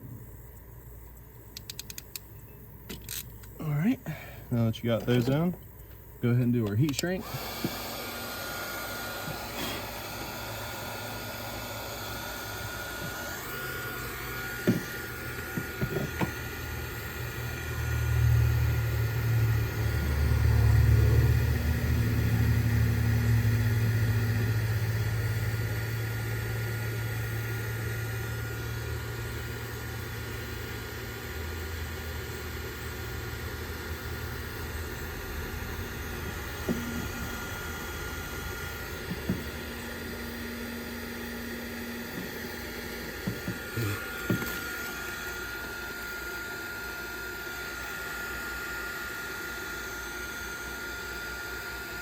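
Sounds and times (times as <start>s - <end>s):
heat gun whining: 2.9s - 52.0s.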